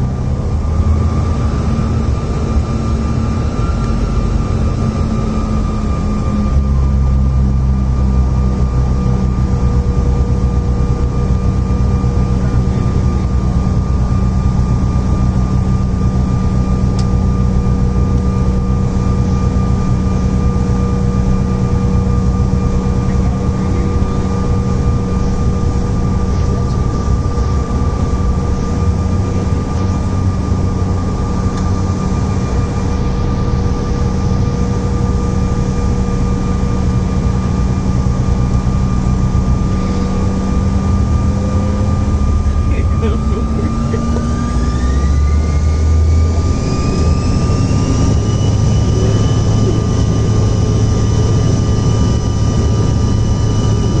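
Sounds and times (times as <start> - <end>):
airliner engines droning: 0.0 - 54.0.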